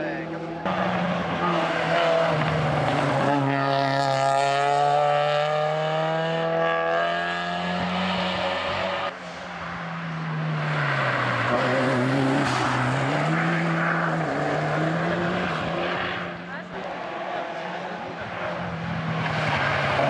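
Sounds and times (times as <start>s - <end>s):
rally car engine at full throttle: 0.0s - 20.0s
car engine revving through gears: 0.6s - 9.1s, 10.2s - 20.0s.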